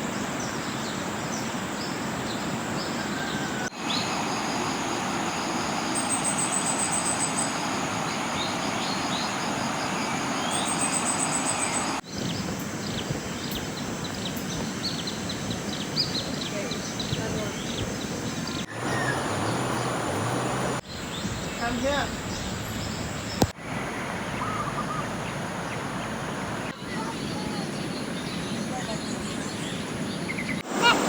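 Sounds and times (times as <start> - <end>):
rushing river water: 0.0 - 12.1, 17.8 - 31.0.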